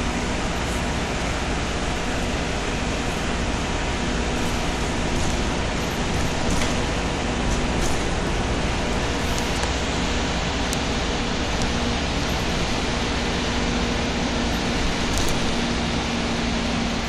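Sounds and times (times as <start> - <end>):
road and tyre noise: 0.0 - 17.0.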